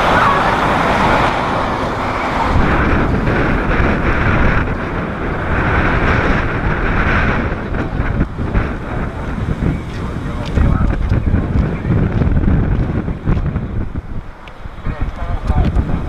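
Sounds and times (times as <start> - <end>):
jet airliner engines: 0.0 - 16.0
wind buffeting microphone: 0.0 - 16.0.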